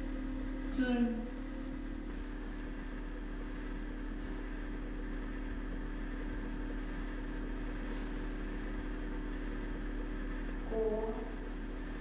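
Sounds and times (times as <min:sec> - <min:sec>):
steady low drone: 0:00.0 - 0:12.0.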